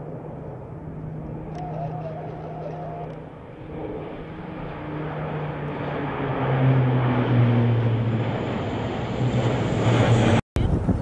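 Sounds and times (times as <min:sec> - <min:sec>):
propeller plane drone: 0:00.0 - 0:11.0.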